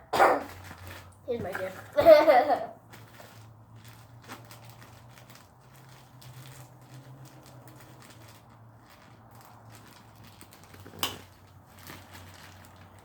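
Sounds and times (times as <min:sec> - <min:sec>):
gift packaging rustling and tearing: 0:00.4 - 0:13.0.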